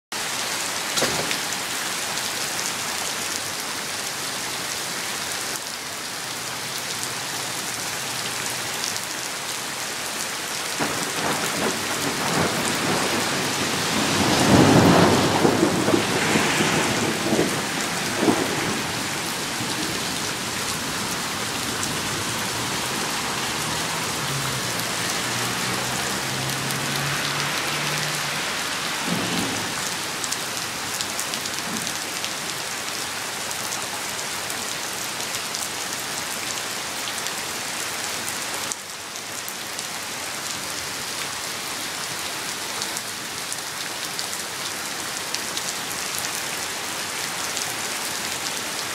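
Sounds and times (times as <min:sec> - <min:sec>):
heavy rain on concrete: 0:00.1 - 0:48.9.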